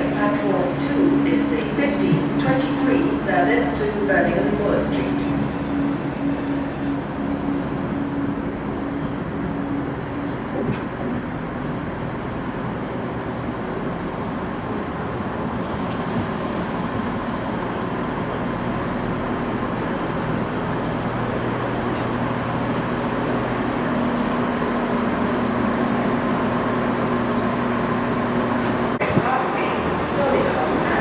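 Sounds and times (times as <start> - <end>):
diesel train engines droning: 0.0 - 31.0.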